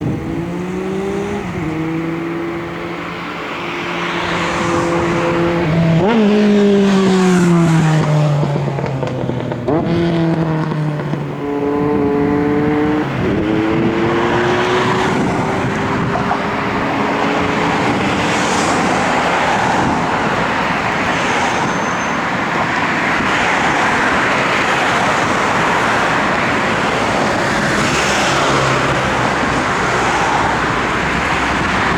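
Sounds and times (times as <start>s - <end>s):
wheels rumbling on rail: 4.2s - 31.9s.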